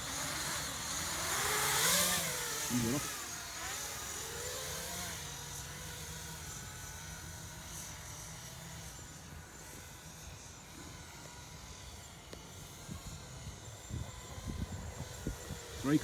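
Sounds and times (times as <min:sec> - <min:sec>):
distant drone motors buzzing: 0:00.0 - 0:16.0.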